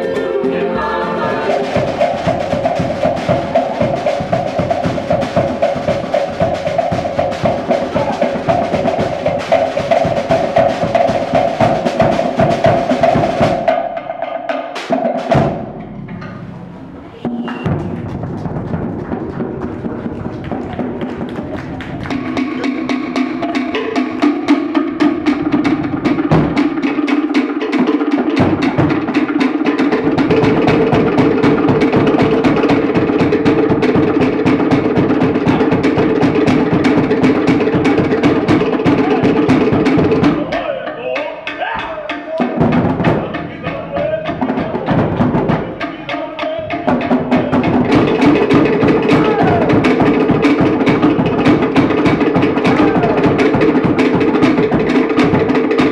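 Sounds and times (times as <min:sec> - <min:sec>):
wooden slit drums rhythm: 0:00.0 - 0:55.9
large skin drum: 0:01.1 - 0:55.9.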